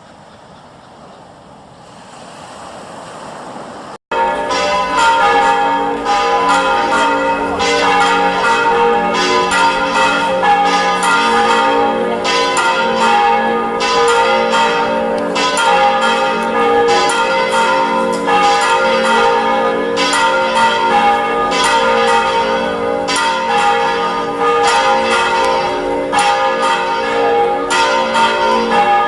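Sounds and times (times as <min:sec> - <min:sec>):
church bells ringing: 0:04.1 - 0:29.0.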